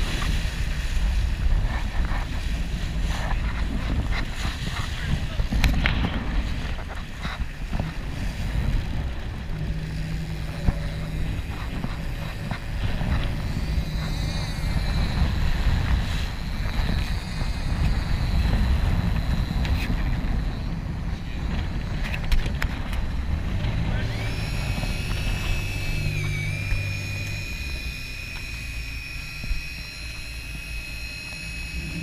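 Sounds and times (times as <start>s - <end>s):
boat engine rumble: 0.0s - 32.0s
sea washing along hull: 0.0s - 32.0s
wind buffeting microphone: 0.0s - 32.0s.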